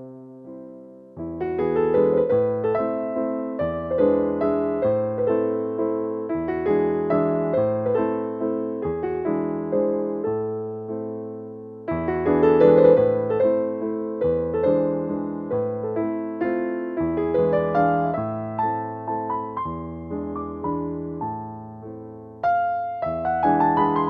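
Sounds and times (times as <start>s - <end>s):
piano playing soft chords: 0.0s - 24.0s.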